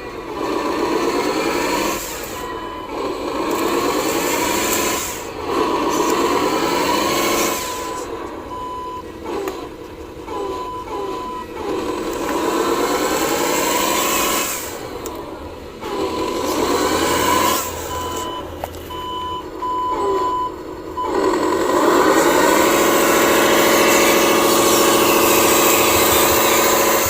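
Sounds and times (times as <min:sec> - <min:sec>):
electric motor whining: 0:00.0 - 0:27.0
reversing beeper: 0:00.8 - 0:09.5, 0:10.3 - 0:15.0, 0:15.7 - 0:27.0.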